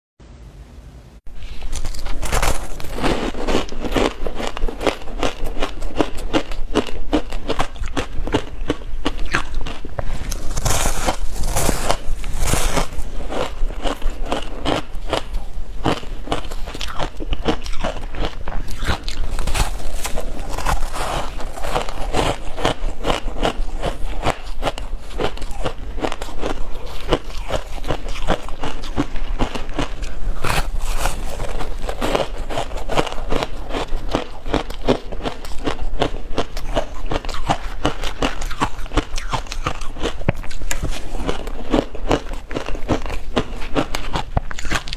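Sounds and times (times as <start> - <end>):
crisp crunches of chewing ice: 1.6 - 44.9.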